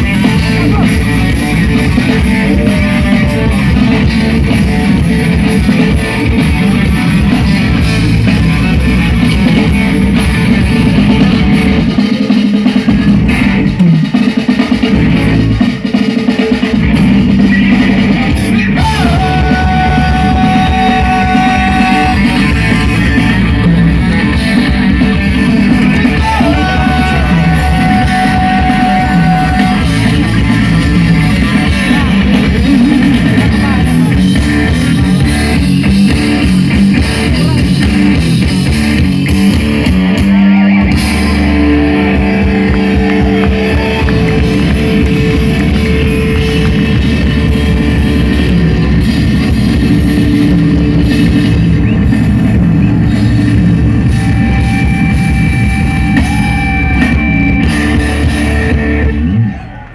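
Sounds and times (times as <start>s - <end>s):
rock music with guitar and drums: 0.0s - 59.9s.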